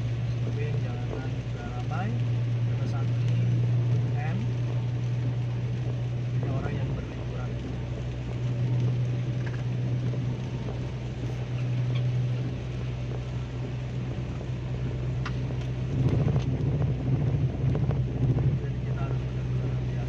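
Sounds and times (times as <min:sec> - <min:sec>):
engine and tyre drone: 0:00.0 - 0:20.0
hiss of rain and spray: 0:00.0 - 0:20.0.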